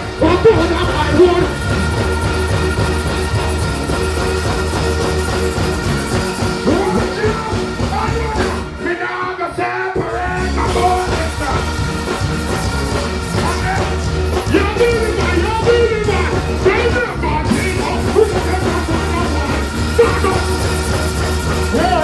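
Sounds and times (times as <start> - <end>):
bass-heavy dancehall beat: 0.0 - 22.0
people deejaying and singing: 0.0 - 22.0.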